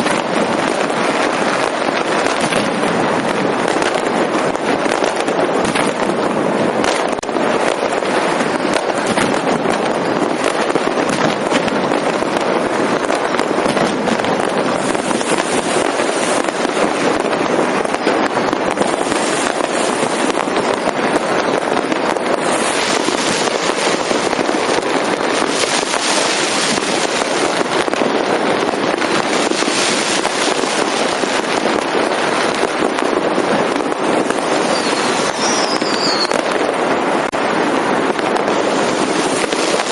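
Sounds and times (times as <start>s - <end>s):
fireworks and firecrackers banging: 0.0s - 39.9s
sharp high crackling: 0.0s - 39.9s.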